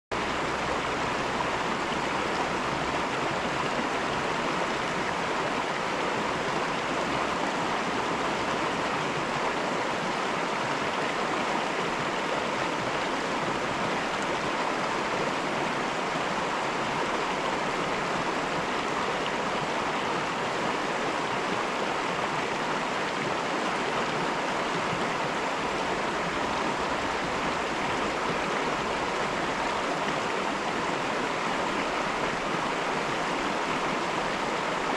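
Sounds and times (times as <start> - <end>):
river rushing over rocks: 0.2 - 34.9.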